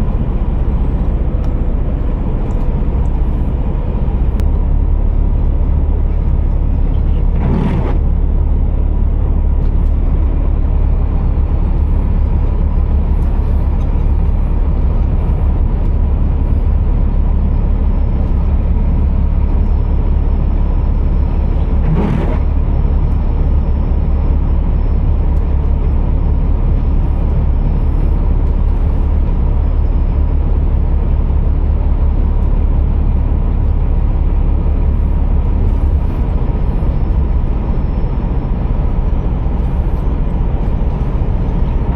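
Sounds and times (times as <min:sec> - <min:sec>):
truck engine droning: 0:00.0 - 0:41.9.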